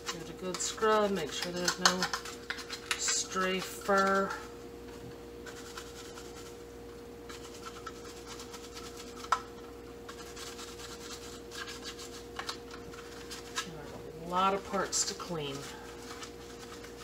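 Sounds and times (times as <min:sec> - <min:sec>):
scrub brush scrubbing plastic: 0:00.0 - 0:04.4, 0:05.4 - 0:06.6, 0:07.3 - 0:09.4, 0:10.1 - 0:17.0.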